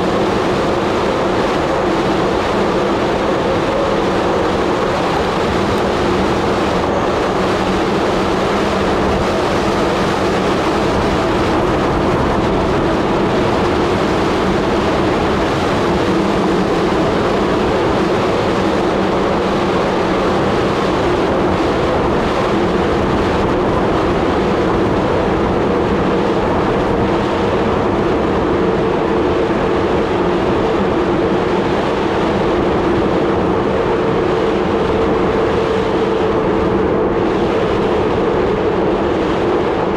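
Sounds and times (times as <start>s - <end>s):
bicycle tyre road noise: 0.0s - 39.9s
wind on microphone: 0.0s - 39.9s.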